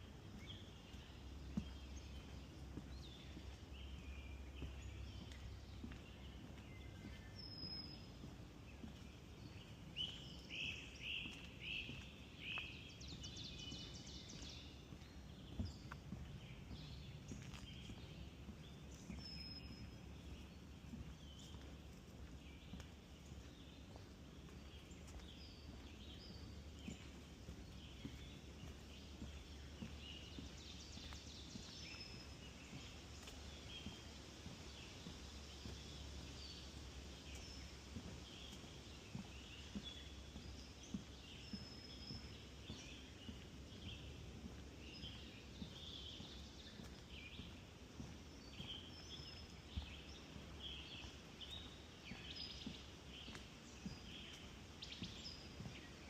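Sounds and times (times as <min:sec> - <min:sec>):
songbirds chirping and whistling: 0:00.0 - 0:56.0.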